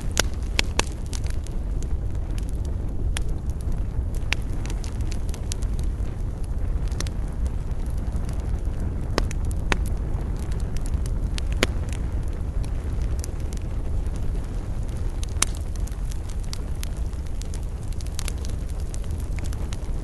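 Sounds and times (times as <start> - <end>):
burning wood crackles and pops: 0.0 - 20.0
campfire rumble: 0.0 - 20.0.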